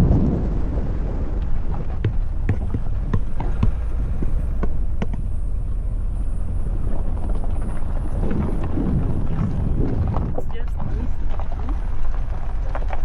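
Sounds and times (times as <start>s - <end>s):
vehicle knocks and rattles: 0.0s - 13.0s
vehicle low rumble: 0.0s - 13.0s.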